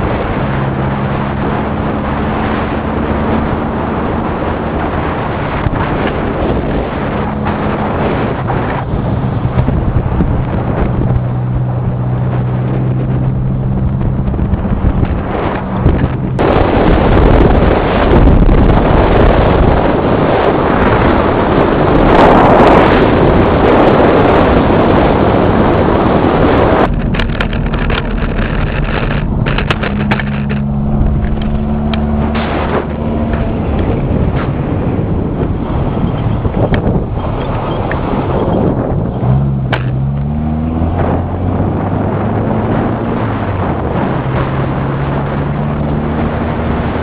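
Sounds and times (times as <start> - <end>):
car engine running: 0.0 - 47.0
wind buffeting microphone: 0.0 - 47.0.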